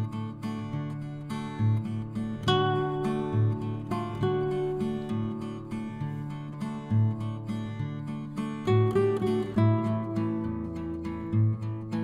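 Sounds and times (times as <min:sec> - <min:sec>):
plucked acoustic guitar: 0:00.0 - 0:12.0.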